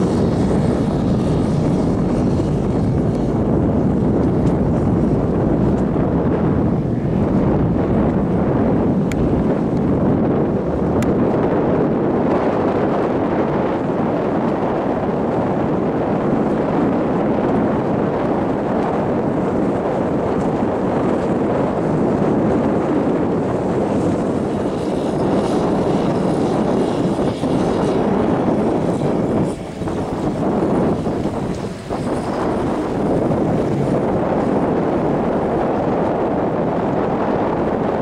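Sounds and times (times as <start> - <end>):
motorboat engine drone: 0.0 - 38.0
wind on microphone: 0.0 - 38.0.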